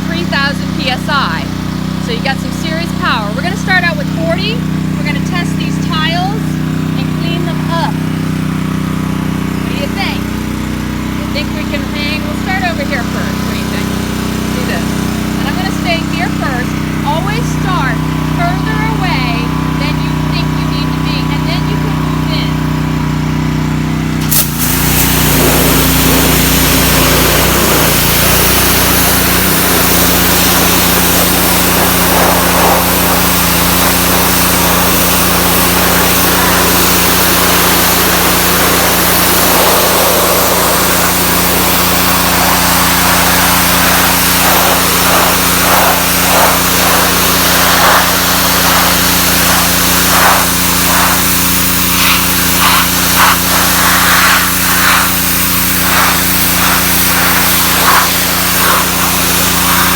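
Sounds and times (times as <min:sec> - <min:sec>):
high-pressure water jet hissing: 0:00.0 - 0:22.9, 0:24.1 - 0:59.9
pressure washer engine running: 0:00.0 - 0:59.9.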